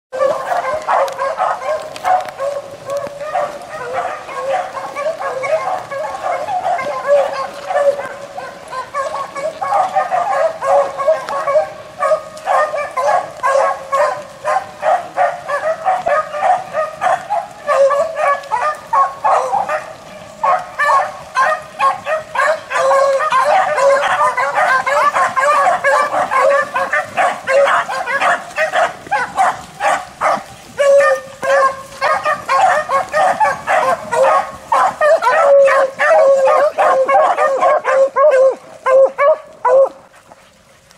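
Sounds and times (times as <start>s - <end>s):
hounds baying: 0.1s - 40.4s.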